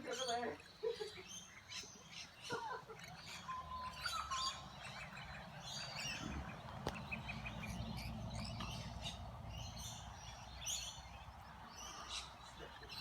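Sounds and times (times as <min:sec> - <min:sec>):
lorikeets screeching and chattering: 0:00.0 - 0:13.0.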